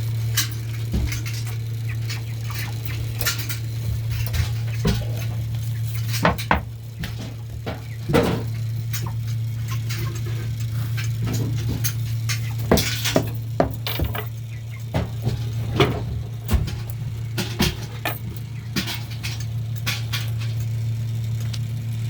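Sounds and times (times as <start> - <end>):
steady low hum: 0.0 - 22.0
taps and clinks of feeders: 0.3 - 20.8.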